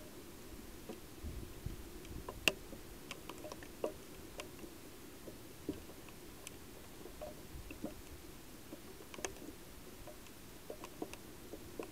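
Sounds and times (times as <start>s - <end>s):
low steady hiss: 0.0s - 11.9s
faint clicks and ticks: 0.8s - 1.1s, 2.0s - 11.9s.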